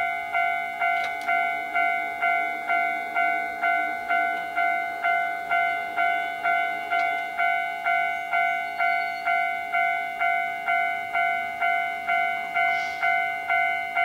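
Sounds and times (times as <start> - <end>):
level crossing warning bell ringing: 0.0 - 14.0.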